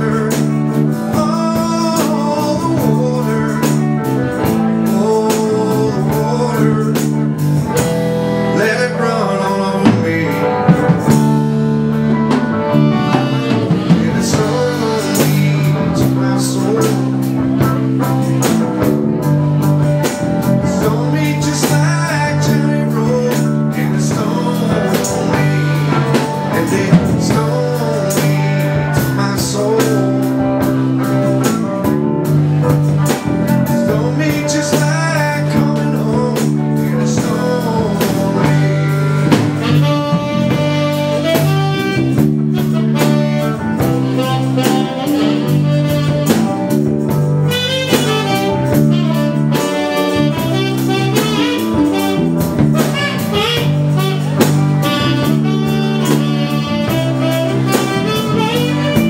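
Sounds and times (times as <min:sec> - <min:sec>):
live blues-rock band: 0:00.0 - 0:59.0.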